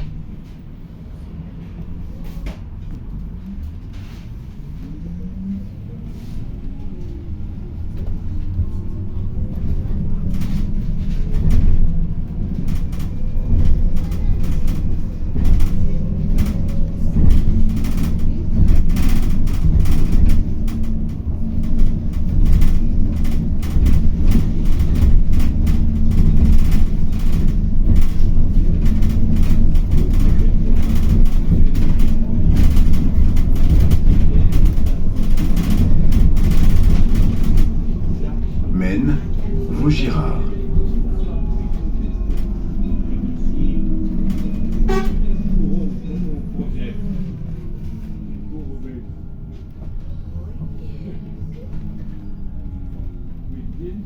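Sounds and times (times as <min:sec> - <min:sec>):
bus body rattling and knocking: 0:00.0 - 0:54.0
bus engine and road rumble: 0:00.0 - 0:54.0.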